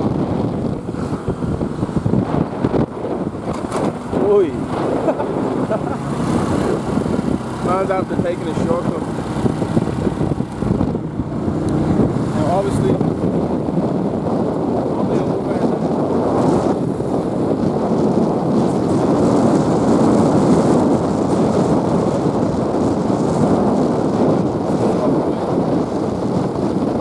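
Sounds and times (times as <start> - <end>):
motorbike road and engine noise: 0.0 - 27.0
wind rushing over microphone: 0.0 - 27.0.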